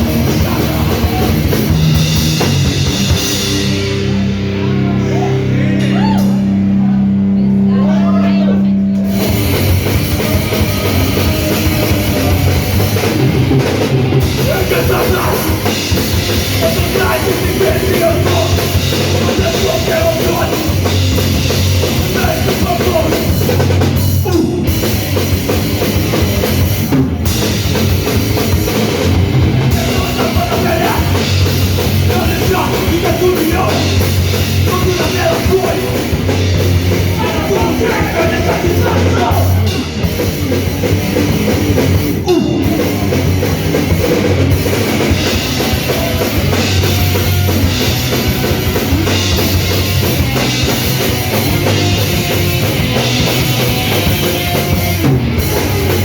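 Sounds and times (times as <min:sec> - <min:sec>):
drum kit pounding: 0:00.0 - 0:07.3, 0:08.8 - 0:56.0
distorted punk rock band: 0:00.0 - 0:56.0.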